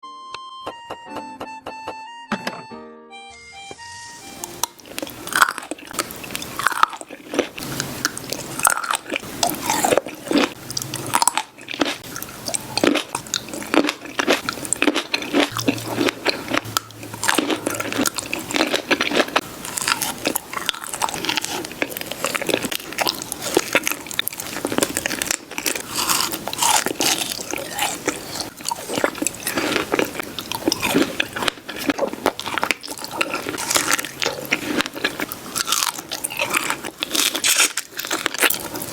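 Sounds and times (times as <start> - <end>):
biting and chewing fruit: 4.4 - 38.9.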